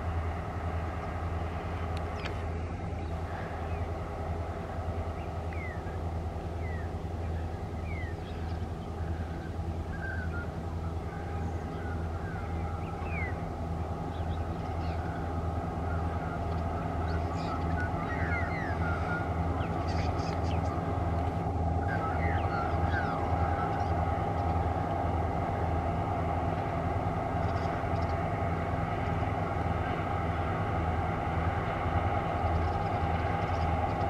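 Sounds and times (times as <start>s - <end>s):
diesel locomotive engines droning: 0.0s - 34.0s
birds chirping: 1.0s - 25.7s, 26.6s - 30.1s, 32.1s - 34.0s.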